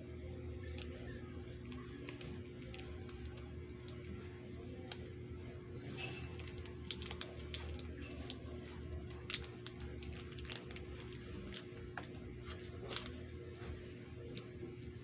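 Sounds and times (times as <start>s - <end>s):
candy wrappers crackling: 0.6s - 5.2s, 6.0s - 15.0s.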